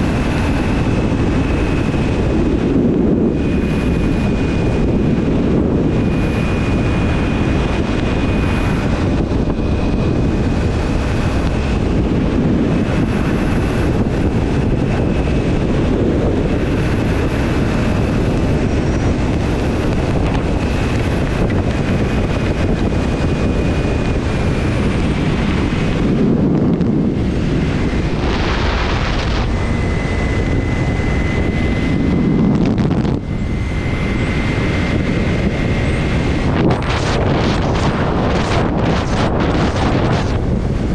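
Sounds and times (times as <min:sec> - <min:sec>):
motorcycle engine and tyre noise: 0:00.0 - 0:40.9
wind rushing over microphone: 0:00.0 - 0:40.9.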